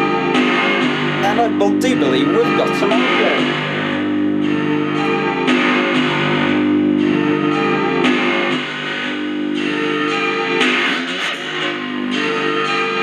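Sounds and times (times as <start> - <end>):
strummed guitar through small speakers: 0.0 - 13.0.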